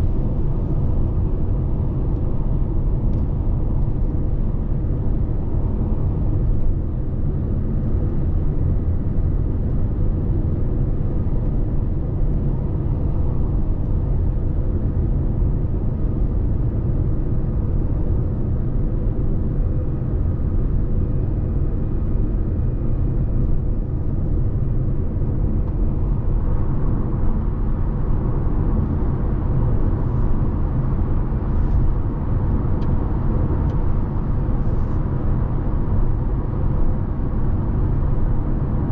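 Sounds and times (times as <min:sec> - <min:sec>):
road and tyre noise in car cabin: 0:00.0 - 0:38.9.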